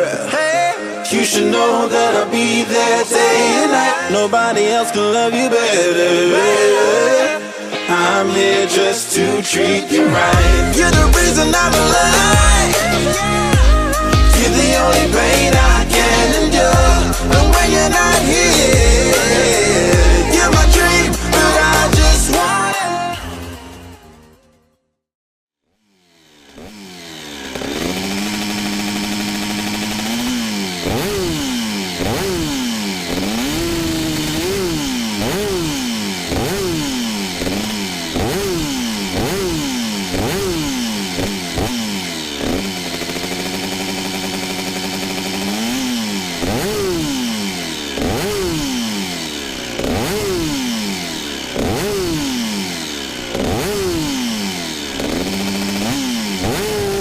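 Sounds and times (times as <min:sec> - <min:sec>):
two-stroke engine idling and revving: 0:00.0 - 0:24.3, 0:25.6 - 0:57.0.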